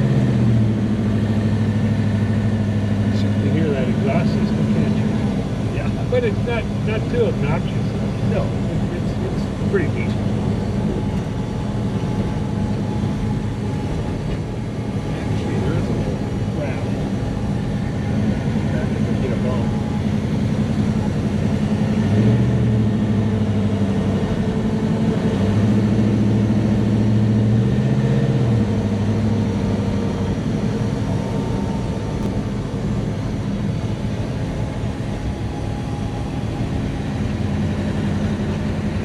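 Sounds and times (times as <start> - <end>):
vee eight engine exhaust: 0.0 - 39.0.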